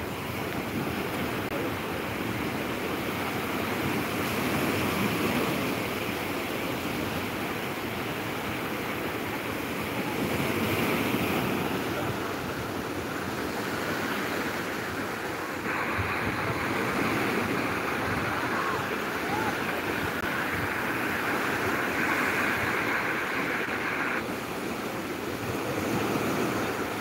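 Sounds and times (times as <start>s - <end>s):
waves breaking on beach: 0.0s - 27.0s.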